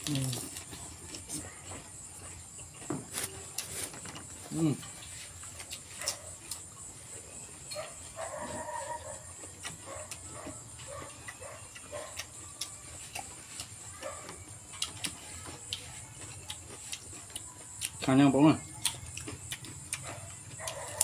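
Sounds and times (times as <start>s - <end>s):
wet chewing: 0.0s - 21.0s.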